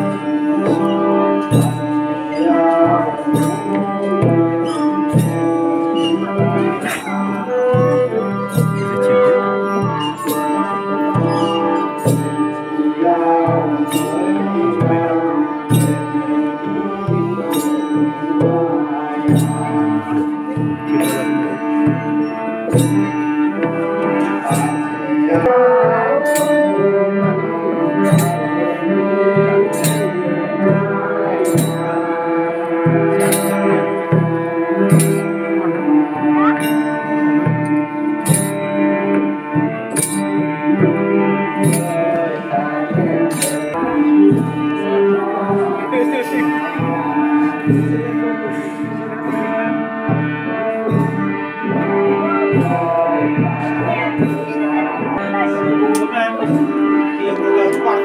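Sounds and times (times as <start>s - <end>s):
organ-like melody notes: 0.0s - 58.0s.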